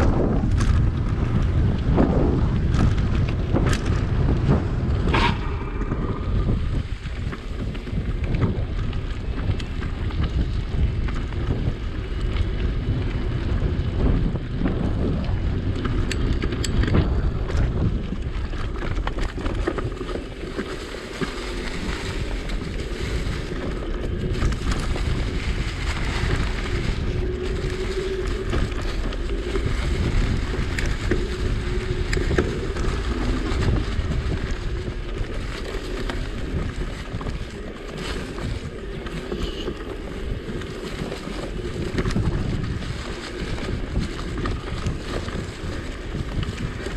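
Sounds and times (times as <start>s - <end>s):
tyre and road noise: 0.0s - 46.9s
wind buffeting microphone: 0.0s - 46.9s.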